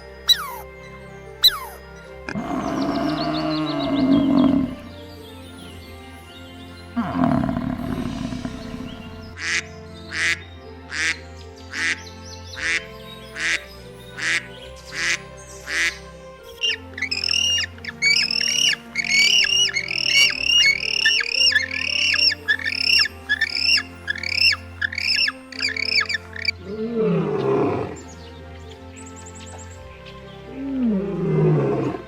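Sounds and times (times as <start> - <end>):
bird calls and squawks: 0.0 - 5.2, 7.0 - 32.0
background music: 0.0 - 32.0.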